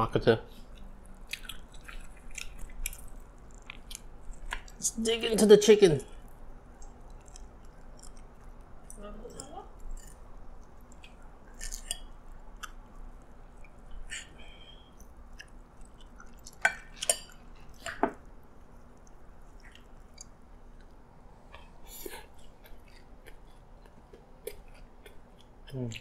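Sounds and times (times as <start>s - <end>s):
chewing: 0.6s - 4.8s, 6.1s - 26.0s.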